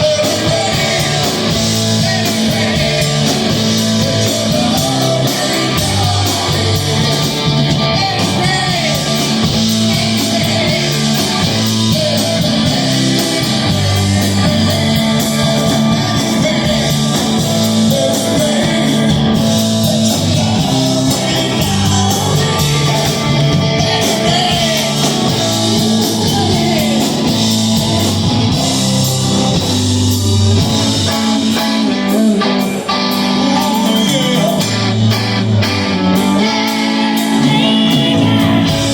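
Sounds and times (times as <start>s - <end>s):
bass line: 0.0s - 38.9s
electric guitar: 0.0s - 38.9s
steady drumbeat: 0.0s - 38.9s.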